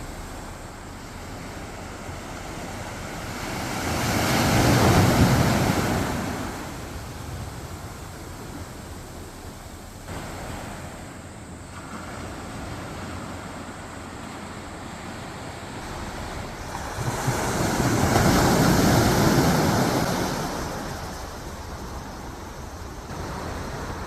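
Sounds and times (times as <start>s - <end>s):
waves washing onto beach: 0.0s - 24.0s.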